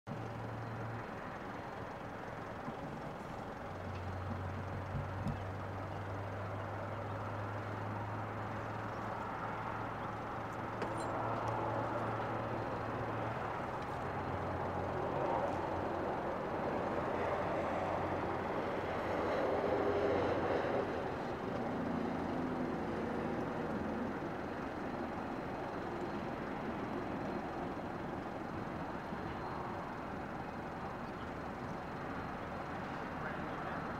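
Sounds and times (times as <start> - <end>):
distant locomotive engine hum: 0.1 - 33.9
outdoor rumble: 0.1 - 33.9.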